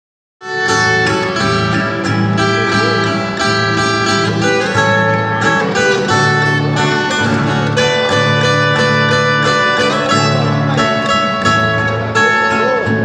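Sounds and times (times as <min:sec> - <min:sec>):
acoustic guitar melody: 0:00.4 - 0:13.0
strummed acoustic guitar chords: 0:00.4 - 0:13.0.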